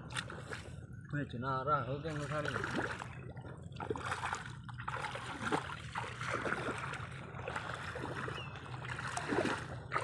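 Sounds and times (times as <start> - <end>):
muddy water sloshing and splashing: 0.0 - 10.0.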